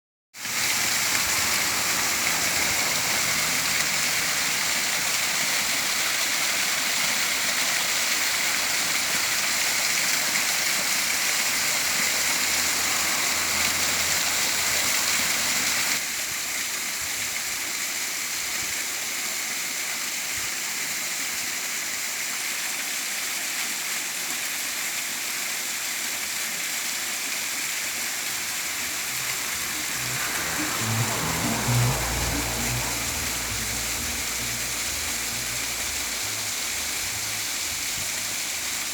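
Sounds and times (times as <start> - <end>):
waterfall rushing: 0.4 - 38.9.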